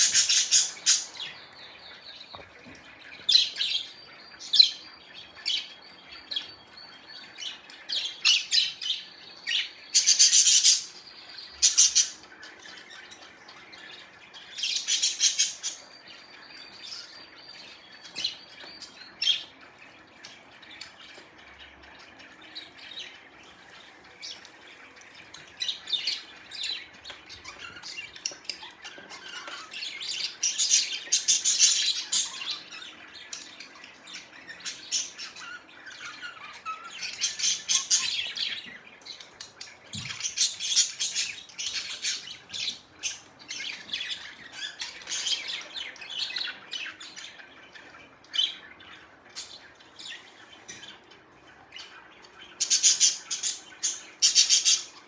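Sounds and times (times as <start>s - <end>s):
budgerigars chattering and chirping: 0.0s - 55.0s.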